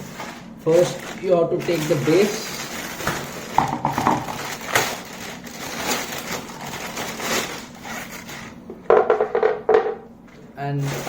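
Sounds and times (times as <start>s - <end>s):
packing material rustling: 0.0s - 8.7s, 10.3s - 11.0s.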